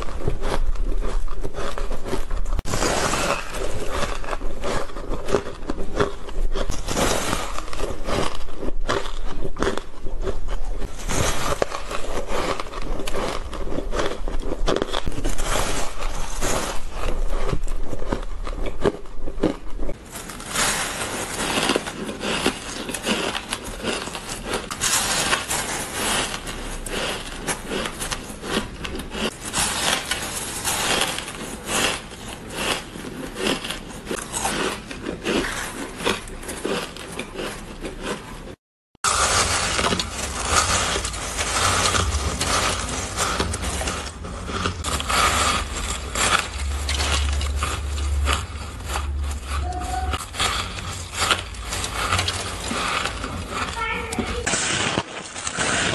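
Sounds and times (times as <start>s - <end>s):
chewing crunchy ice: 0.0s - 55.9s.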